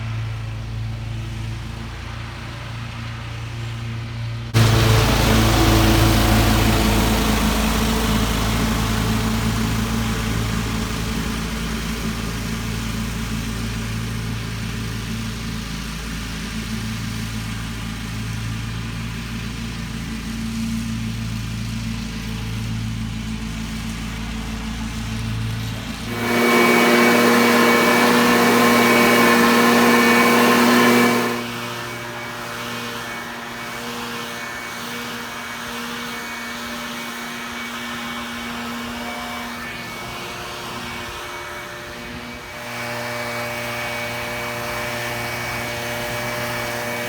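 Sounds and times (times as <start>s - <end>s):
engine running: 0.0s - 47.0s
loud high whining engine: 0.0s - 47.0s.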